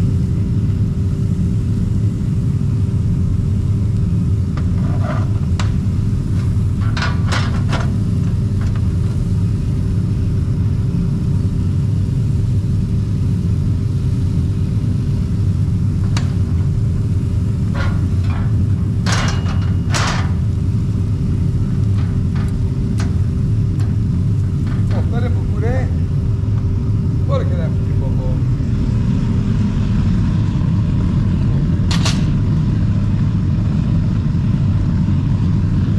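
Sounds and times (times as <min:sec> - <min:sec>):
machine rumbling: 0:00.0 - 0:35.9.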